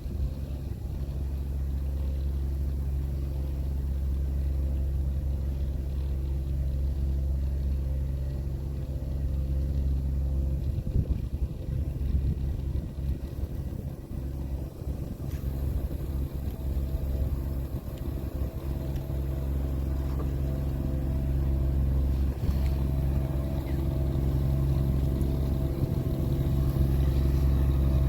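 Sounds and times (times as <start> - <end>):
tractor engine humming: 0.0 - 28.0.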